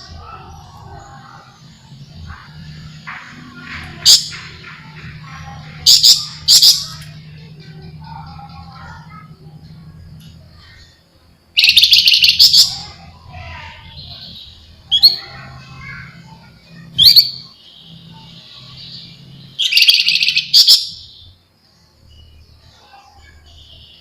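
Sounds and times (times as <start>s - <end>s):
bird buzzy chatters: 0.0s - 21.2s.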